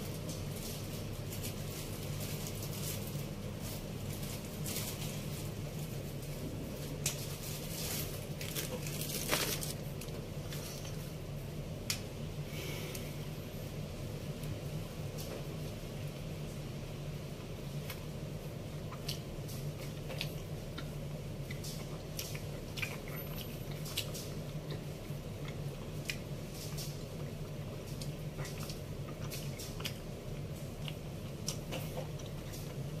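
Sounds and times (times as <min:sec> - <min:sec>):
chewing bread: 0:00.0 - 0:11.2, 0:17.4 - 0:33.0
steady low hum: 0:00.0 - 0:33.0.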